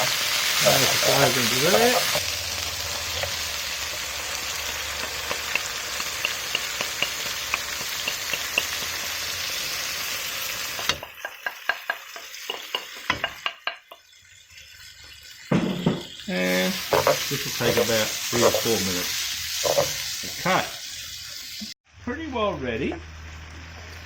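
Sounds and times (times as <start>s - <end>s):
food sizzling in a frying pan: 0.0s - 22.0s, 22.6s - 24.0s.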